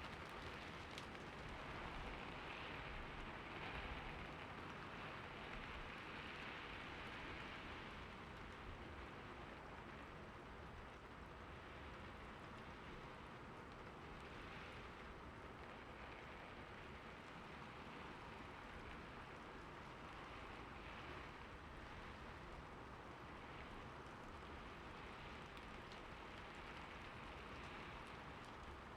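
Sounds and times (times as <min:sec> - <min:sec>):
soft rain falling: 0:00.0 - 0:28.9.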